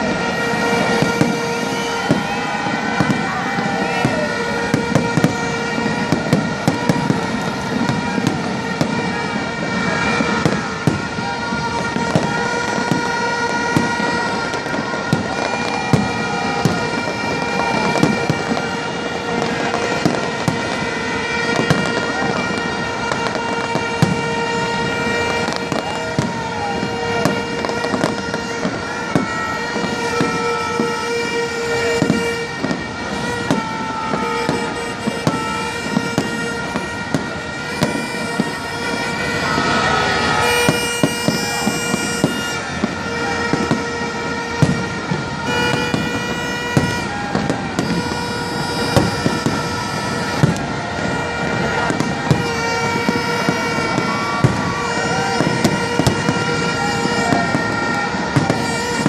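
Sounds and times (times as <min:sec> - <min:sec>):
fireworks banging and popping: 0:00.0 - 0:59.0
fireworks crackling: 0:00.0 - 0:59.0
steady horn-like tones: 0:00.0 - 0:59.0.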